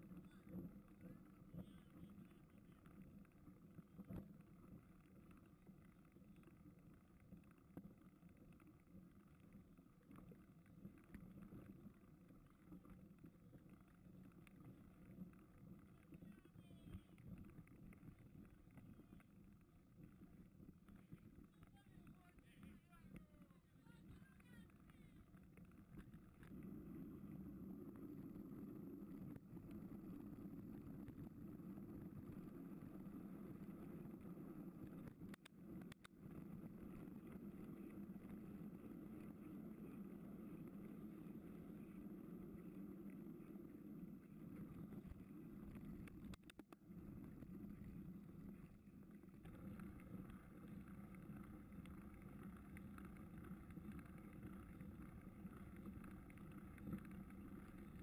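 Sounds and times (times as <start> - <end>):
bike tyres rolling over ground: 0.0 - 23.4, 24.4 - 58.0.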